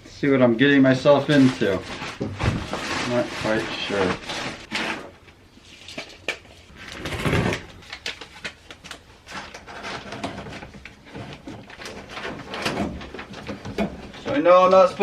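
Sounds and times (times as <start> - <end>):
insulation rustling and scraping: 0.3 - 15.0.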